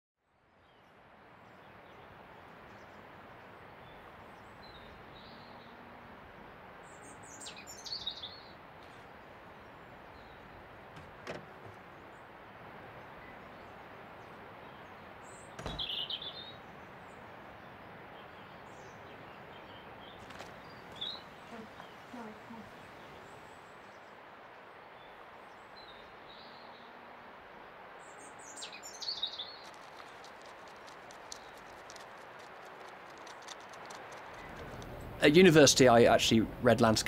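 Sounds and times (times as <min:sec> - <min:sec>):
steady background hiss: 0:00.5 - 0:37.0
small birds chirping: 0:00.6 - 0:37.0.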